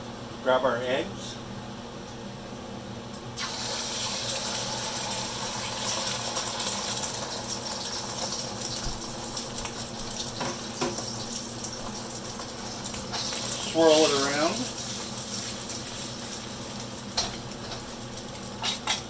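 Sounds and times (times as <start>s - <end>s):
eggs sizzling in hot oil: 3.4s - 19.0s.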